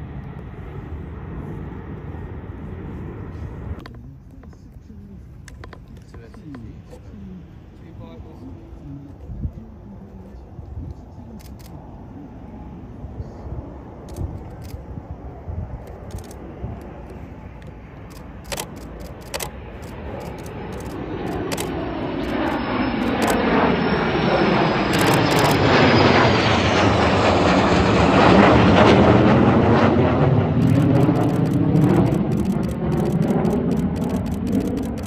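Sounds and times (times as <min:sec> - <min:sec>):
fighter jets flying over: 0:00.0 - 0:03.8, 0:05.1 - 0:35.0.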